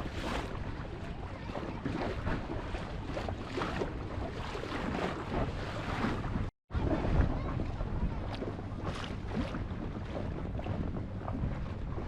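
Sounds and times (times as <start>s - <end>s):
water splashing along boat hull: 0.0s - 12.0s
wind buffeting microphone: 0.0s - 12.0s.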